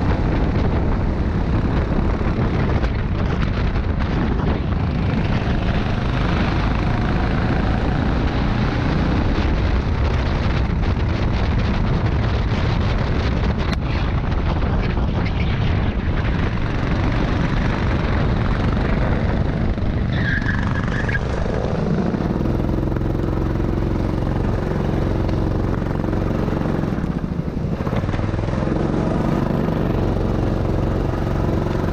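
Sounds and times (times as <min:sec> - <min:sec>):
go-kart engine running: 0:00.0 - 0:31.9
rush of noise: 0:00.0 - 0:31.9.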